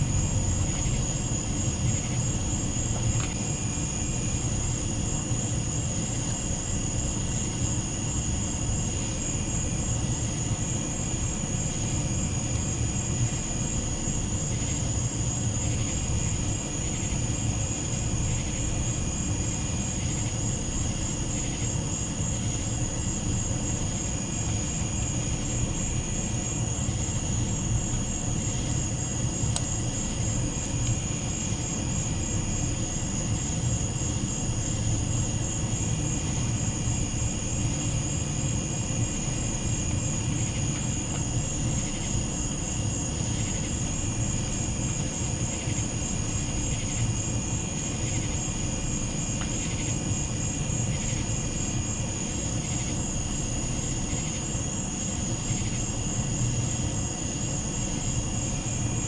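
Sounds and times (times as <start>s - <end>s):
crickets and katydids trilling: 0.0s - 59.0s.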